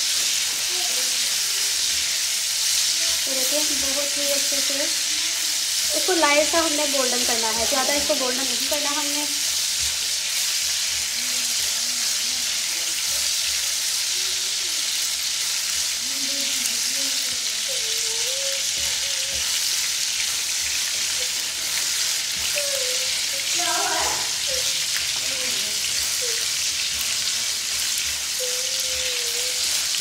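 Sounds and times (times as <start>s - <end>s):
spatula stirring in pan: 0.0s - 14.1s, 16.7s - 30.0s
chicken sizzling in oil: 0.0s - 30.0s.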